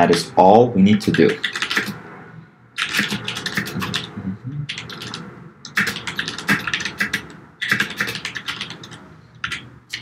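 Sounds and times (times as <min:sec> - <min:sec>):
computer keyboard typing: 0:00.9 - 0:02.0, 0:02.8 - 0:10.0.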